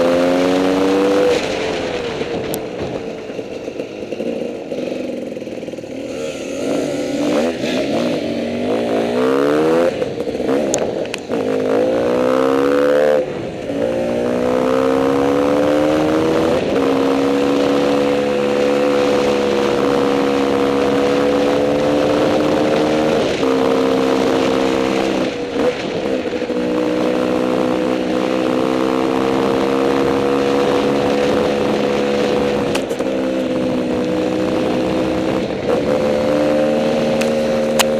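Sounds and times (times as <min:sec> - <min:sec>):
dirt bike engine accelerating: 0:00.0 - 0:37.9.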